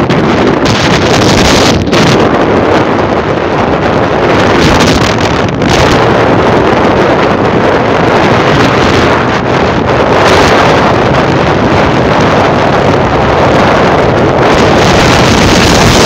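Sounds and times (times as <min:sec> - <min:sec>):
moving vehicle rushing: 0:00.0 - 0:16.0
wind buffeting microphone: 0:00.0 - 0:16.0.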